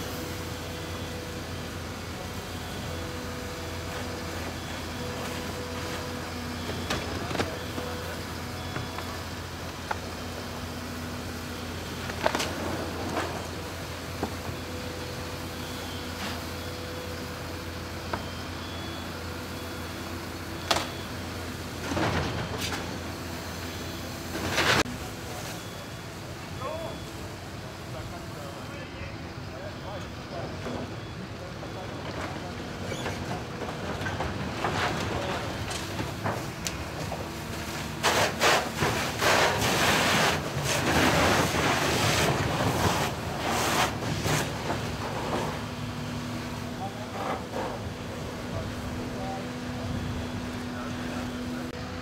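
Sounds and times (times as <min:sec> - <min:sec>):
diesel engine drone: 0:00.0 - 0:52.0.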